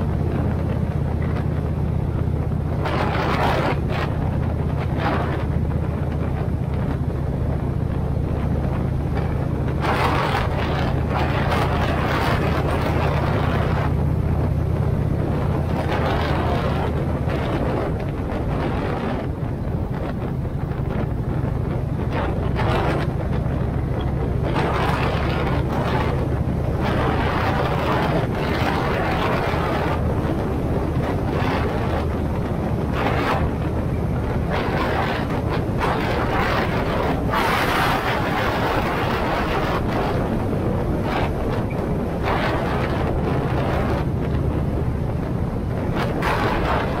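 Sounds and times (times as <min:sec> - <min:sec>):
vehicle engine and road drone: 0:00.0 - 0:47.0
wind buffeting microphone: 0:00.0 - 0:47.0.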